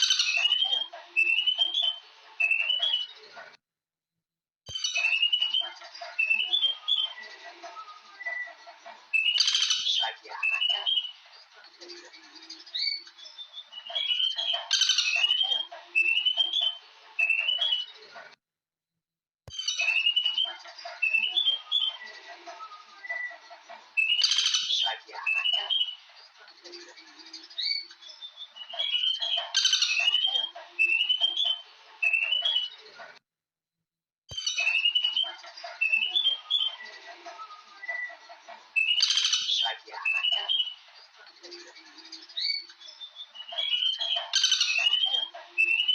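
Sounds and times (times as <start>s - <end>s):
birds chirping: 0.0s - 3.6s, 4.7s - 18.4s, 19.5s - 33.2s, 34.3s - 45.9s.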